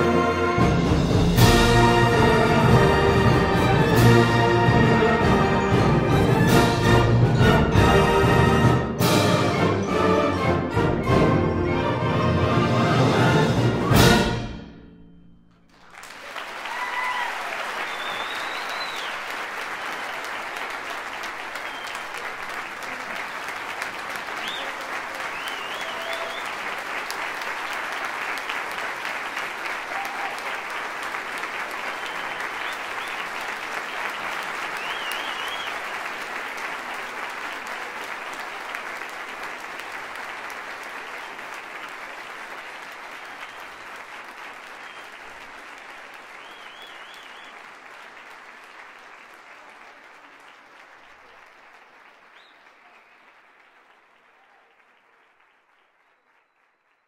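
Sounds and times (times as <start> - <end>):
audience applause: 0.0 - 14.4, 15.6 - 57.0.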